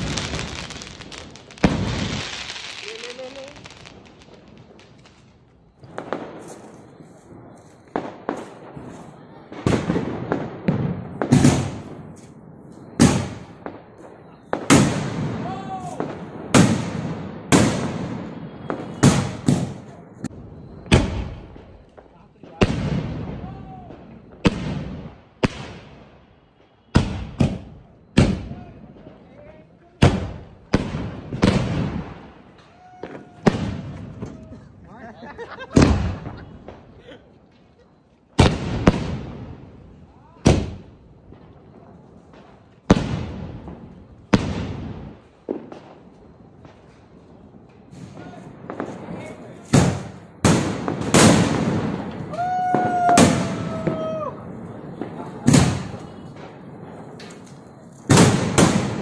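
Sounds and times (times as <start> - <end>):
firework bangs with echo: 0.0 - 5.0, 5.8 - 26.2, 26.8 - 29.2, 30.0 - 34.6, 35.3 - 37.0, 38.4 - 59.0
sharp firework cracks: 0.0 - 20.0, 30.0 - 34.6, 35.6 - 41.6, 42.2 - 59.0.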